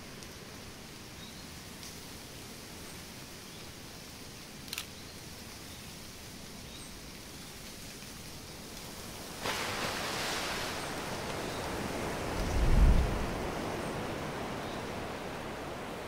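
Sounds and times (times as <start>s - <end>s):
soft ambient hiss: 0.0s - 16.0s.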